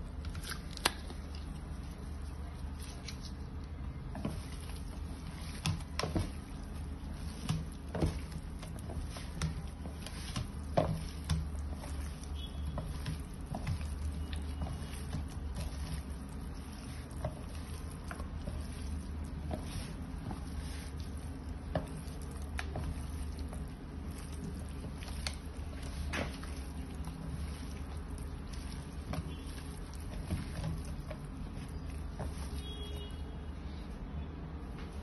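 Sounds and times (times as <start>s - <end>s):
wet squelches of meat: 4.4s - 33.2s.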